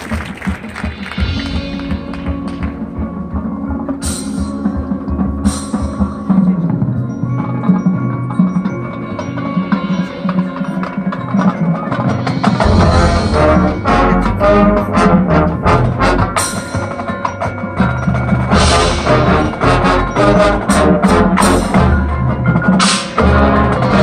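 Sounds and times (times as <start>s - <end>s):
marching band playing: 0.0s - 24.0s
mallet percussion playing: 0.8s - 24.0s.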